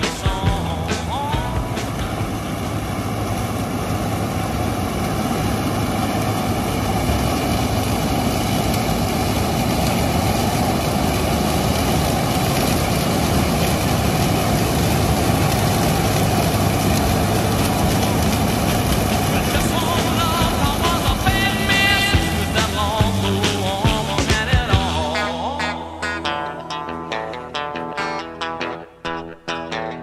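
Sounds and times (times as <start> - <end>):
combine harvester engine drone: 0.0 - 30.0.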